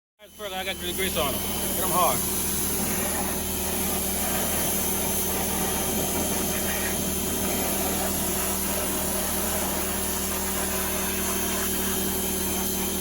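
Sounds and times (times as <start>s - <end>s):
engine idling hum: 0.2s - 13.0s.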